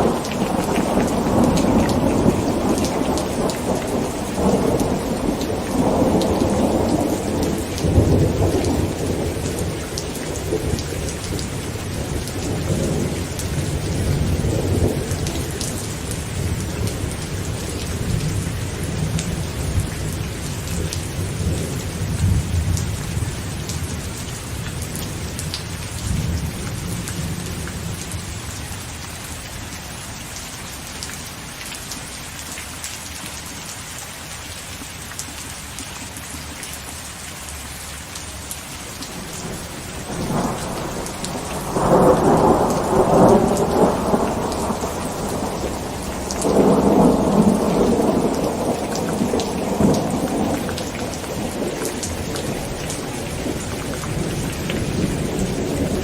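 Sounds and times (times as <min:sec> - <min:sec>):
thunder rumbling: 0:00.0 - 0:28.2, 0:39.1 - 0:56.0
heavy rain on a tent: 0:00.0 - 0:56.0.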